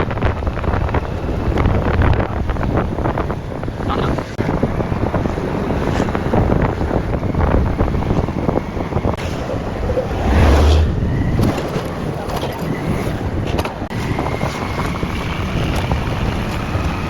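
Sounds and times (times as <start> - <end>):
motorcycle engine and road rumble: 0.0 - 17.0
wind buffeting microphone: 0.0 - 17.0.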